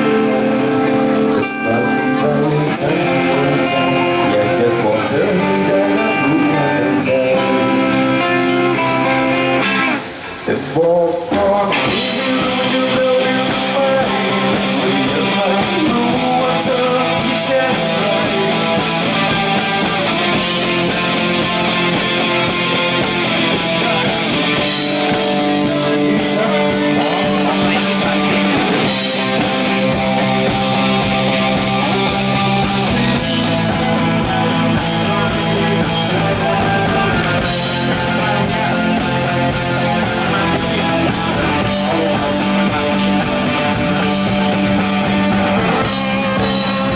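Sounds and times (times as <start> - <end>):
person singing: 0.0 - 9.8, 10.5 - 46.9
electric guitar: 0.0 - 46.9
rock band through pa system: 0.0 - 46.9.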